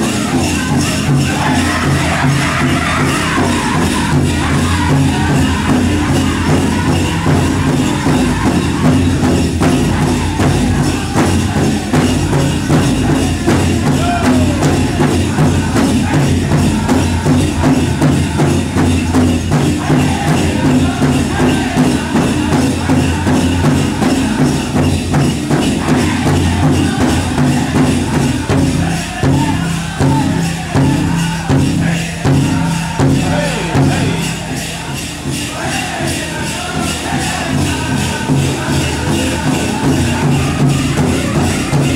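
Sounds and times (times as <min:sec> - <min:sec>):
driving drumbeat: 0:00.0 - 0:41.9
group singing: 0:00.0 - 0:41.9
jingling bells: 0:00.0 - 0:41.9.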